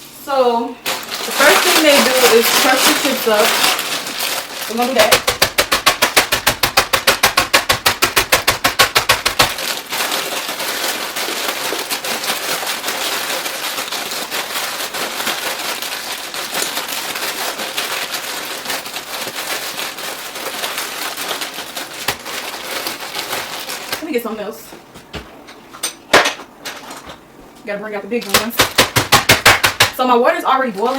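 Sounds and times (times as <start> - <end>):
bag of chips crinkling: 0.8 - 24.3, 28.2 - 30.9.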